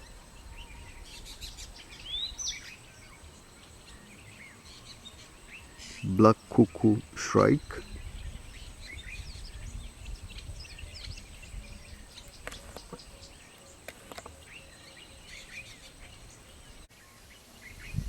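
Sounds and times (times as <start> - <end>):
bird chirps and calls: 0.0 - 18.0.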